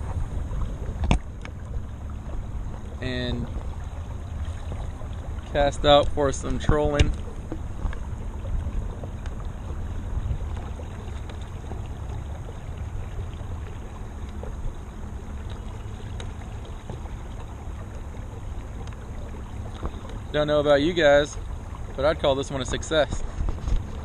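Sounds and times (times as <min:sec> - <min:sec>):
small splashes: 0:00.0 - 0:24.0
water rushing along hull: 0:00.0 - 0:24.0.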